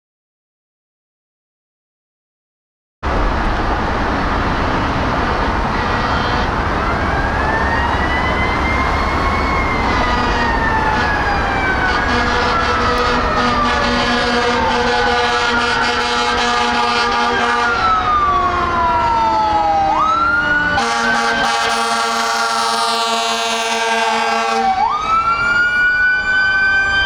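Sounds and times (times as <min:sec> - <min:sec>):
truck engine: 0:03.0 - 0:27.0
mechanical siren wailing: 0:04.5 - 0:27.0.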